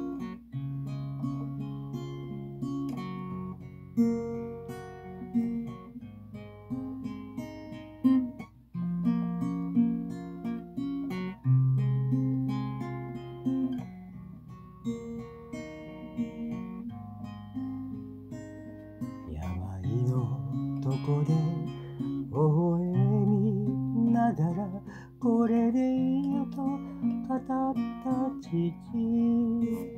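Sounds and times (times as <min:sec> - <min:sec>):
acoustic guitar playing: 0:00.0 - 0:29.9.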